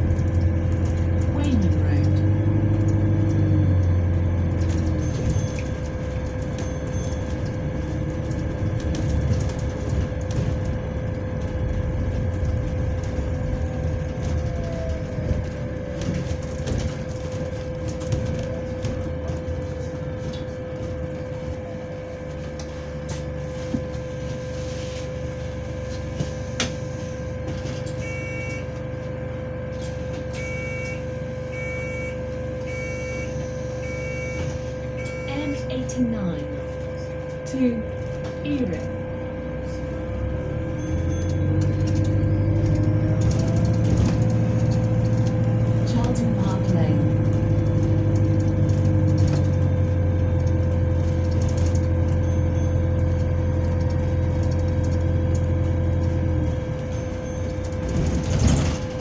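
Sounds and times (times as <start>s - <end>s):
bus engine rumble: 0.0s - 59.0s
fan whine: 0.0s - 59.0s.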